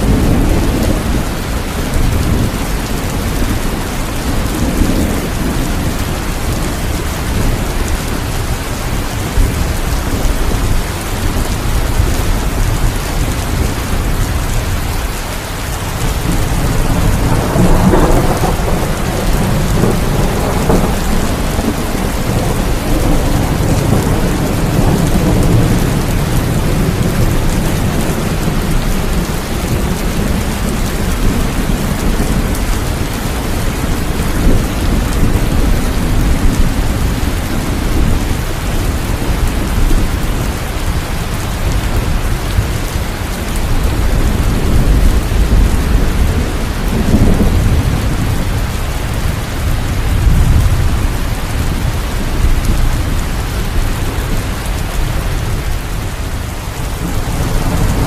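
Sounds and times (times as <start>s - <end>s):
heavy rain falling: 0.0s - 58.0s
low rolling thunder: 0.0s - 58.0s.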